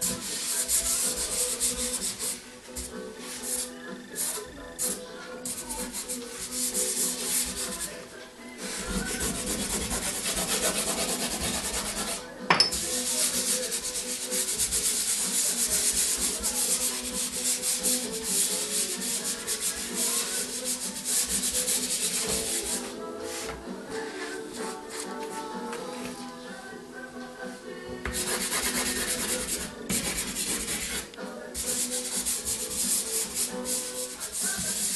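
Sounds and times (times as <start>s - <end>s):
hand rubbing pastel on paper: 0.1s - 2.4s, 3.2s - 7.9s, 8.6s - 12.2s, 12.9s - 25.4s, 28.2s - 34.9s.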